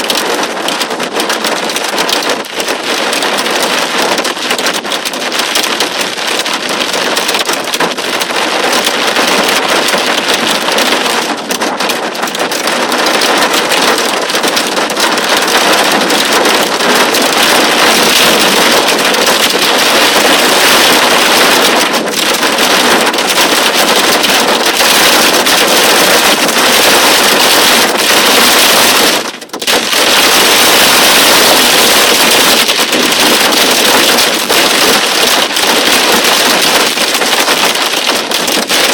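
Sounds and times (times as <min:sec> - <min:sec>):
torrential rain on a car: 0:00.0 - 0:38.9.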